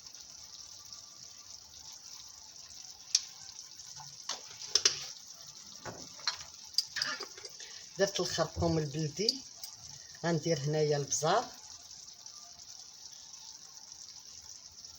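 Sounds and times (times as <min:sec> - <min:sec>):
meat and onions sizzling: 0:00.0 - 0:14.9.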